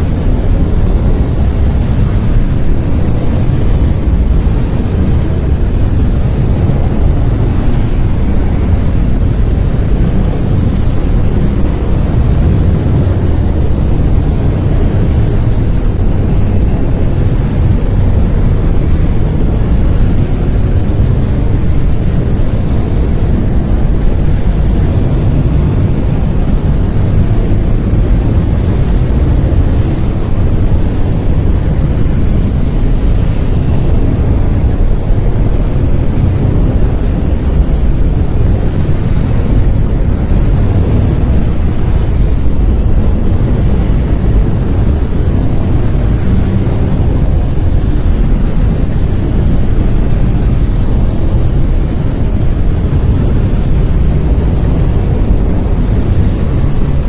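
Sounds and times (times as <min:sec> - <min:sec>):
brown noise: 0:00.0 - 0:57.0.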